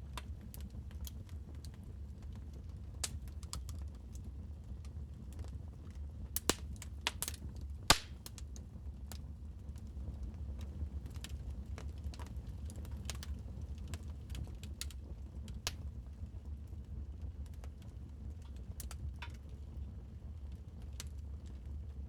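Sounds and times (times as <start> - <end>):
wood fire crackling: 0.1 - 21.9.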